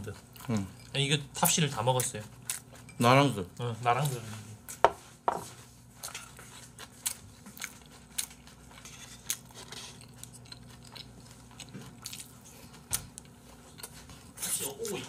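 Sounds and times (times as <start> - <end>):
person chewing: 0.0 - 3.1, 5.5 - 15.0.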